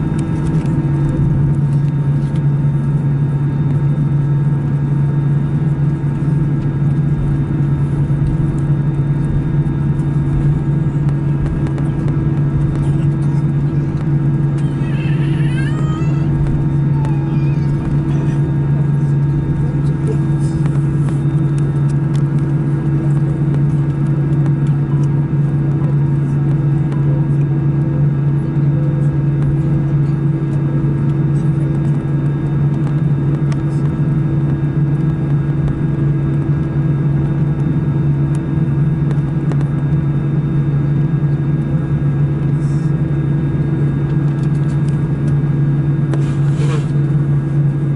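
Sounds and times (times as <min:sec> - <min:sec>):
airplane cabin engine hum: 0:00.0 - 0:47.9.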